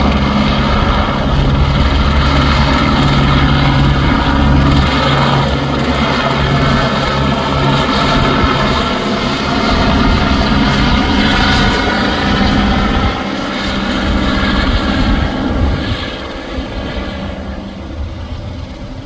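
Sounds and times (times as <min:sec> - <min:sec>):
helicopter running loudly: 0:00.0 - 0:19.0.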